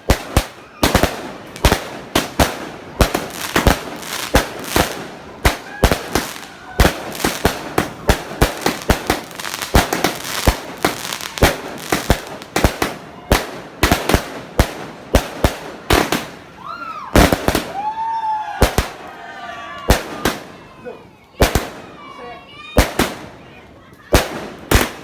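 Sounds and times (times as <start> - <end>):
fireworks bangs: 0.0 - 19.2, 19.8 - 25.0.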